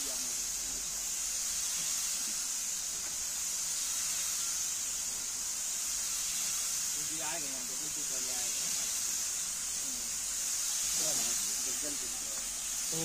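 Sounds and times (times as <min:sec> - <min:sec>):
paint spray gun hissing: 0:00.0 - 0:13.0.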